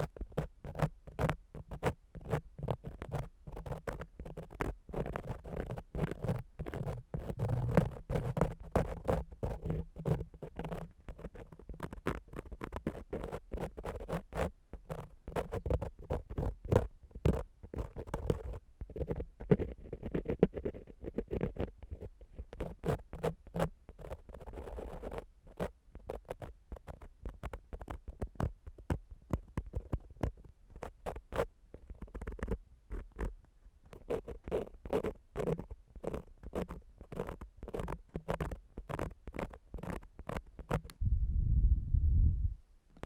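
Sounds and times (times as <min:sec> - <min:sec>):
tool scratching on microphone: 0:00.0 - 0:28.5, 0:29.4 - 0:41.0.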